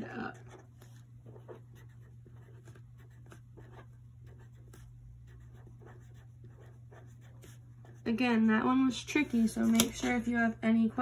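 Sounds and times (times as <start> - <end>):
steady low hum: 0.0 - 11.0
pen scratching on paper: 0.2 - 10.0.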